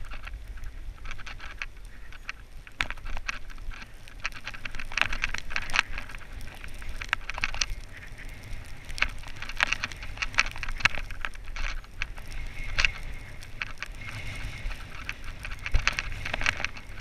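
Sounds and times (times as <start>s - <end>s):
sharp clicks and crackles: 0.0s - 17.0s
wind and motion rumble: 0.0s - 17.0s.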